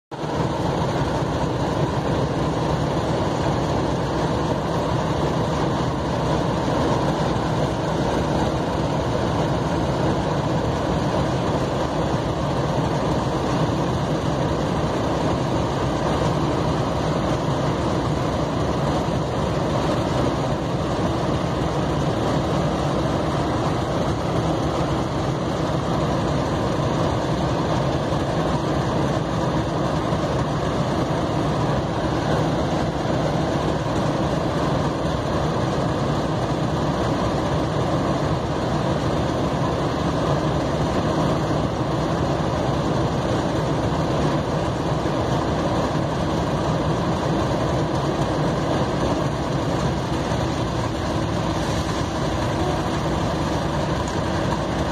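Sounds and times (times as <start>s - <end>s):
diesel locomotive engines idling: 0.1s - 54.9s.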